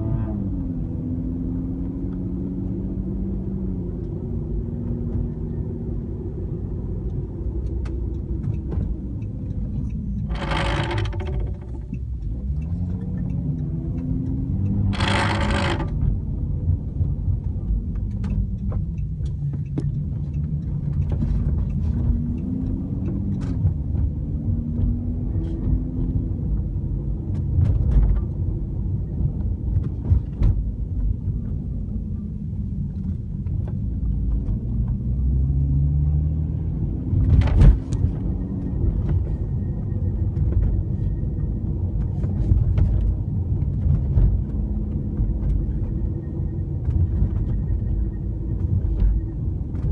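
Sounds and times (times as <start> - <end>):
road and engine rumble: 0.0 - 49.9.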